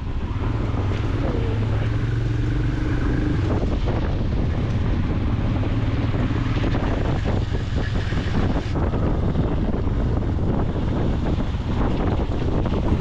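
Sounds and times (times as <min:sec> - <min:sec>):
motorcycle engine humming: 0:00.0 - 0:13.0
road and wind noise: 0:00.0 - 0:13.0.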